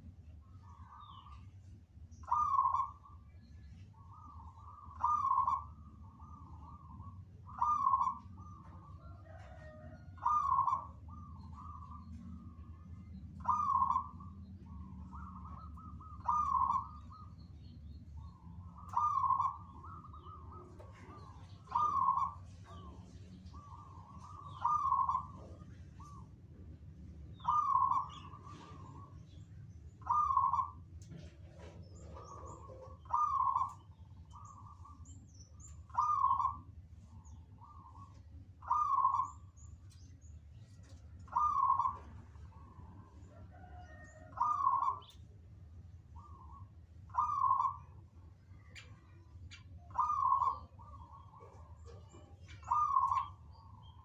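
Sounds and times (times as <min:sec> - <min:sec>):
small birds chirping: 0:00.0 - 0:54.0
doves cooing: 0:02.2 - 0:03.3, 0:03.9 - 0:26.5, 0:27.2 - 0:39.7, 0:40.7 - 0:45.2, 0:45.8 - 0:54.0.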